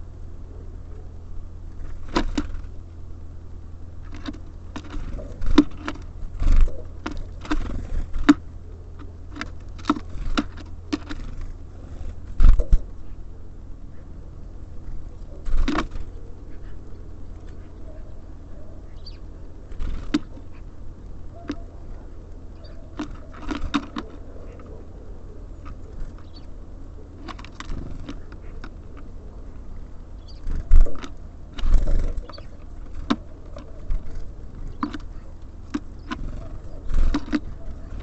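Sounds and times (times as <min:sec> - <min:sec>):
birds pecking at seed: 0:00.0 - 0:38.0
birds fluttering thumps: 0:01.6 - 0:03.2, 0:03.8 - 0:38.0.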